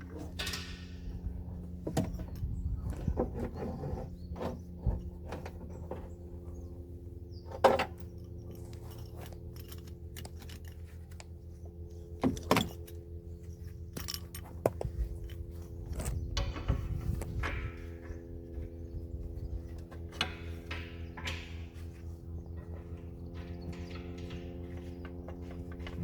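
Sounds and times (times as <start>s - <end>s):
clinks of tools and metal parts: 0.0s - 6.1s, 7.4s - 26.0s
steady hum: 0.0s - 26.0s.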